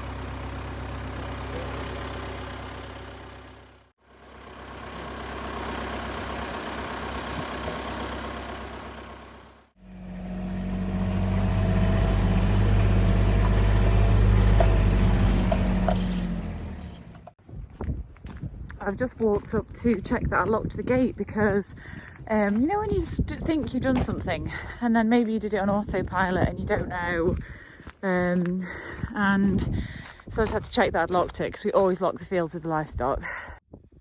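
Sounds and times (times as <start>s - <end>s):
vehicle engine running: 0.0s - 31.5s.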